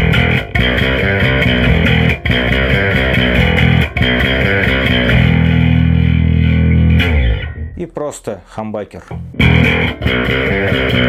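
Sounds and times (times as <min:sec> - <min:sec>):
overdriven electric bass riff: 0:00.0 - 0:08.1, 0:09.0 - 0:11.0.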